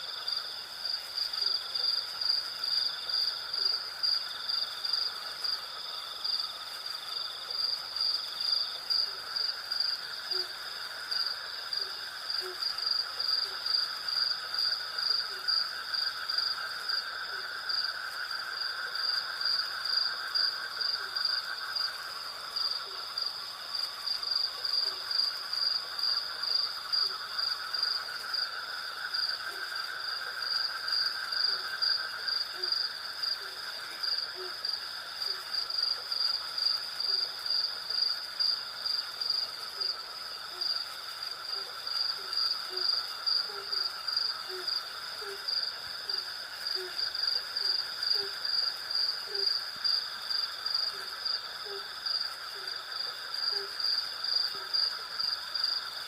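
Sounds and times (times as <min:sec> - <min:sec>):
crickets pulsing trill: 0:00.0 - 0:56.0.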